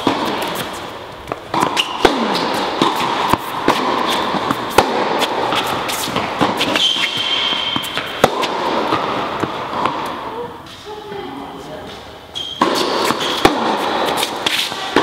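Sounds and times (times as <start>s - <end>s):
tennis balls struck by rackets: 0.0s - 10.8s, 11.8s - 15.0s
tennis balls bouncing on court: 0.0s - 15.0s.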